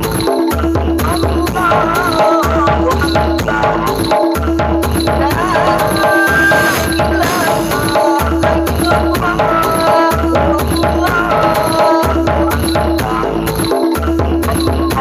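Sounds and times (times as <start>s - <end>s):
loud dance music with heavy bass: 0.0s - 15.0s.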